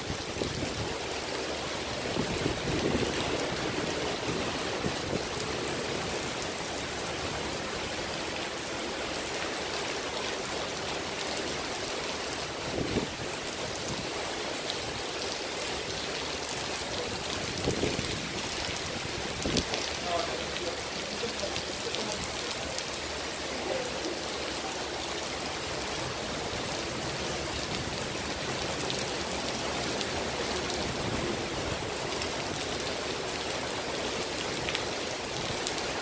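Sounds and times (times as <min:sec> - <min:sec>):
heavy rain on paving and roof: 0:00.0 - 0:36.0.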